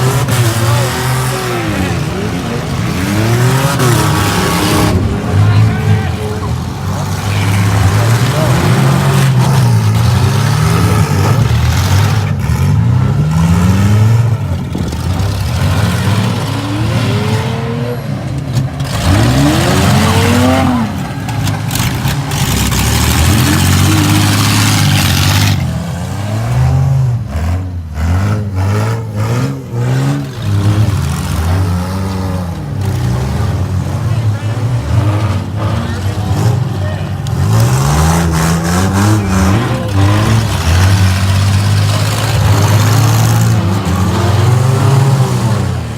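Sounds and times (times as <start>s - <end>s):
engines revving: 0.0s - 45.9s.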